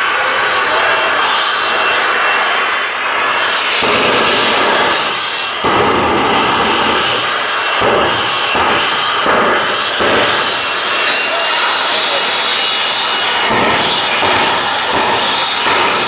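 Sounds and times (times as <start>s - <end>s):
vehicle engine running loud: 0.0s - 16.0s.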